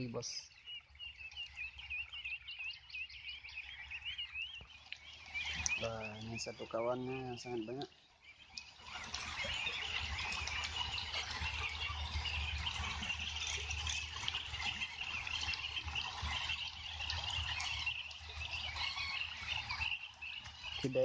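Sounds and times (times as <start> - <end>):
ducks calling: 0.0 - 21.0.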